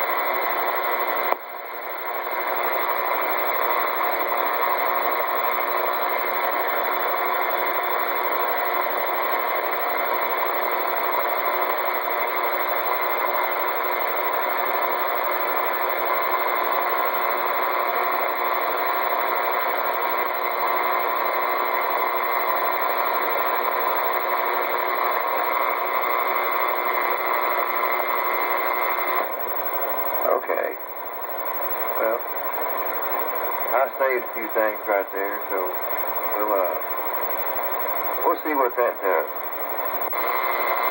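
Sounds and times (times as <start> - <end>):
radio static hiss: 2.0 - 40.9.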